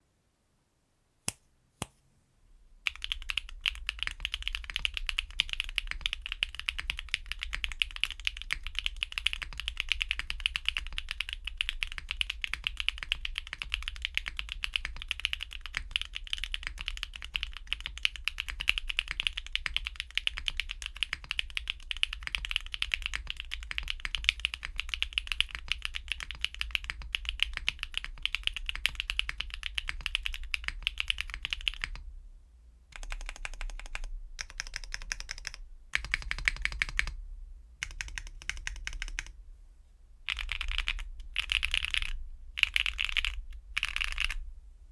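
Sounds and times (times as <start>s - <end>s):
typing on mechanical keyboard: 2.9s - 32.0s, 33.0s - 37.2s, 37.8s - 39.3s, 40.3s - 44.4s.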